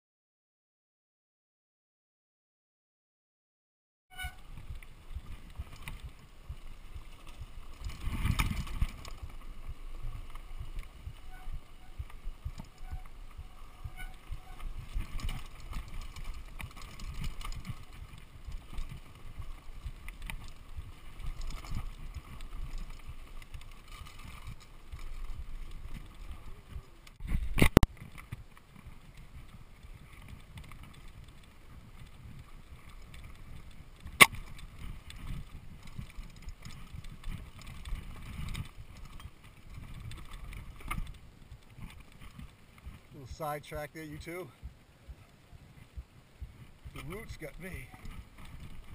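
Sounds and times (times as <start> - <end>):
bike tyres rumbling and rattling: 4.1 - 48.9.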